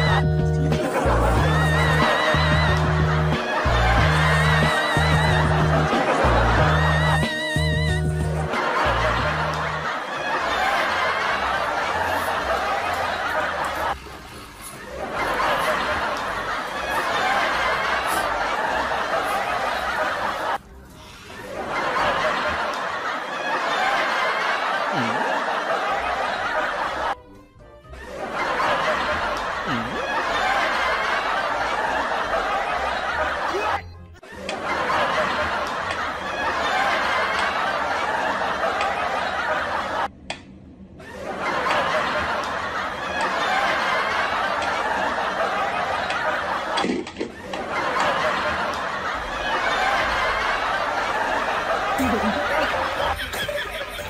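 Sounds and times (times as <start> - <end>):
audience laughing: 0.0 - 27.2, 27.9 - 40.1, 41.0 - 54.0.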